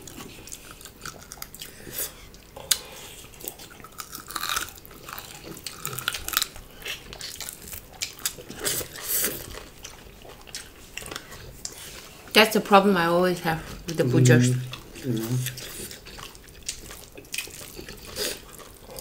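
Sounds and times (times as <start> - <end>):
chewing with wet smacks: 0.0 - 12.4, 13.6 - 19.0.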